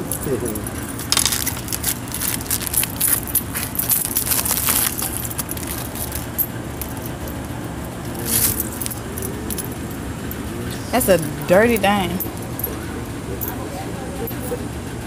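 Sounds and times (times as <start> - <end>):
coins clinking: 0.0 - 13.6.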